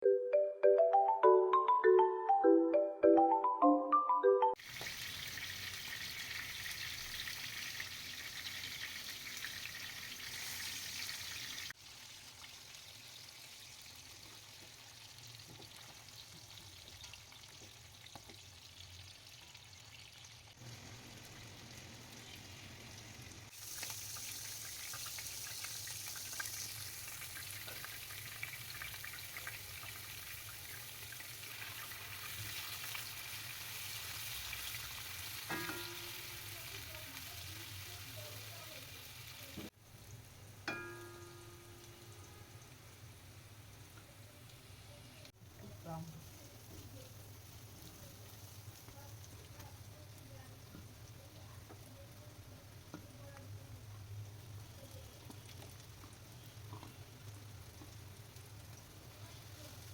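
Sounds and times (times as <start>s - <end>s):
food sizzling in hot oil: 4.6s - 59.9s.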